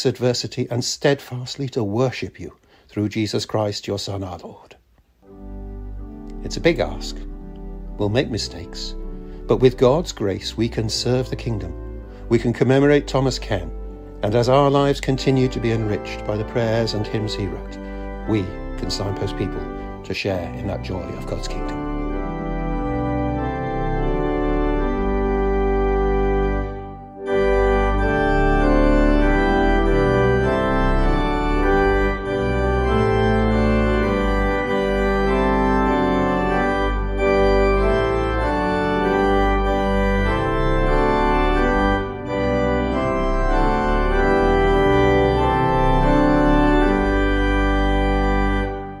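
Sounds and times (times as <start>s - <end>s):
organ playing sustained chords: 5.2s - 49.0s.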